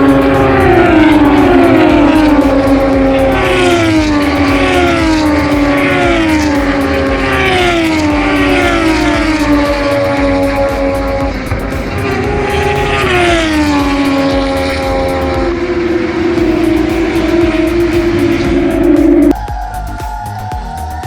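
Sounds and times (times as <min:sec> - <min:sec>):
racing motorcycles passing at high revs: 0:00.0 - 0:19.3.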